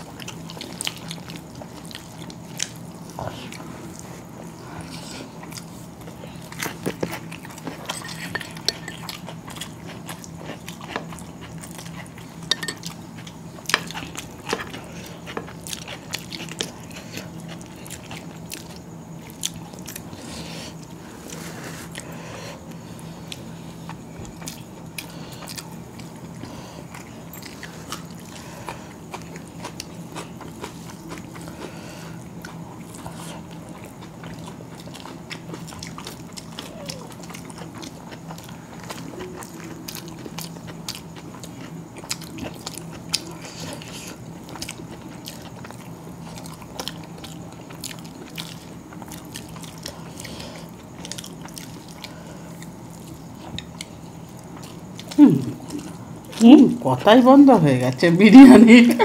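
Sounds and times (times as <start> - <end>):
people chewing and lip smacking: 0.0 - 56.4
steady low hum: 0.0 - 59.0.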